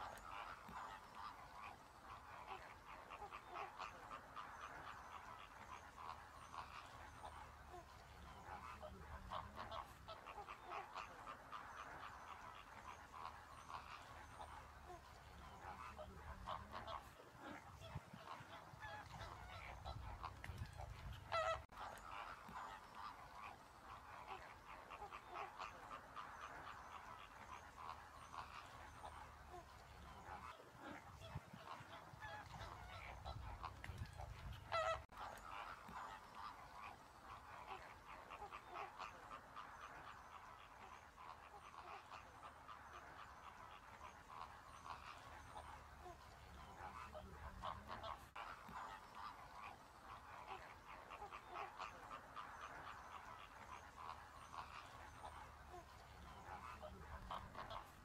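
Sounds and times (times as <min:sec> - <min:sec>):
flamingos chattering calls: 0:00.0 - 0:58.0
loud flamingo calls: 0:00.0 - 0:58.0.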